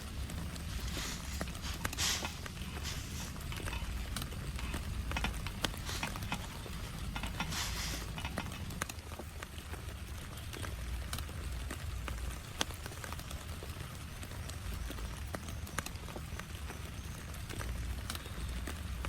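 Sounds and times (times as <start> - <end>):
rain falling: 0.0 - 19.0
raindrops tapping on surface: 0.0 - 19.0.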